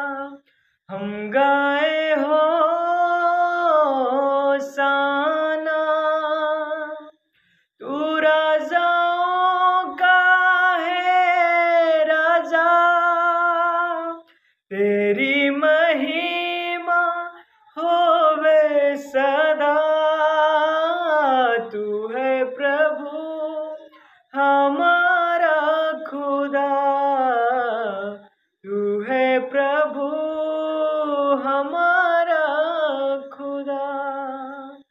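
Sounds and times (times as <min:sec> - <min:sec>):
man singing unaccompanied: 0:00.0 - 0:07.2, 0:07.8 - 0:34.9.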